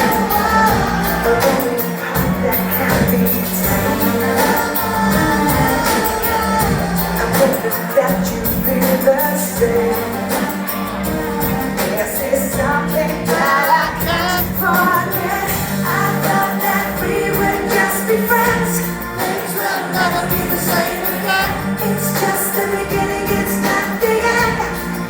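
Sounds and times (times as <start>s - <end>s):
live pop band: 0.0s - 25.0s
woman singing: 0.0s - 25.0s.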